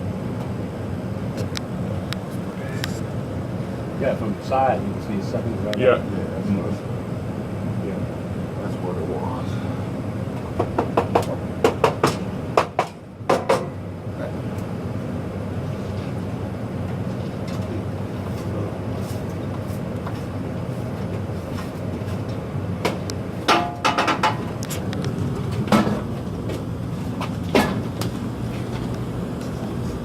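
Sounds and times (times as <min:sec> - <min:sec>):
gas water heaters humming: 0:00.0 - 0:30.0.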